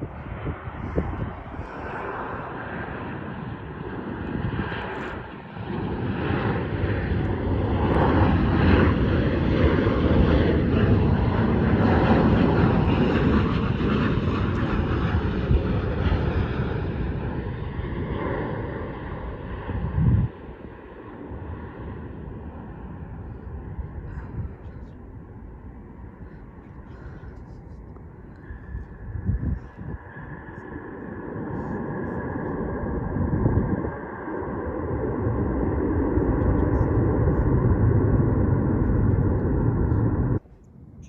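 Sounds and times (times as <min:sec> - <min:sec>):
faint engine whine: 0:00.0 - 0:41.0
jet airliner engine roar: 0:00.0 - 0:41.0.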